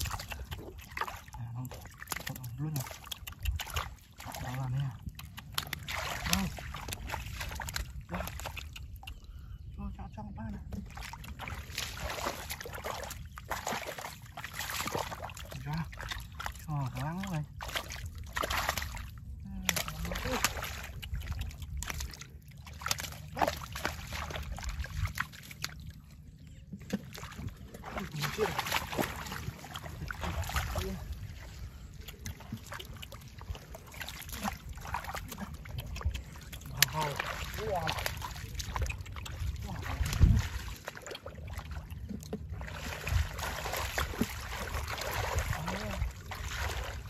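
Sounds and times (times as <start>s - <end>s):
sharp water splashes: 0.0s - 9.3s, 10.7s - 26.0s, 26.8s - 47.0s
hands sloshing in muddy water: 0.0s - 9.5s, 10.4s - 47.0s
mud squelching: 0.0s - 47.0s.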